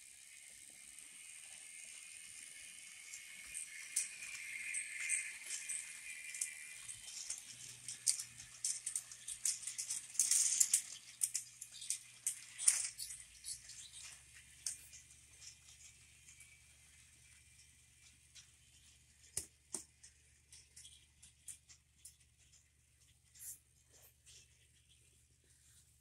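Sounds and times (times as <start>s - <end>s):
toy train clicking and rattling: 0.0s - 26.0s.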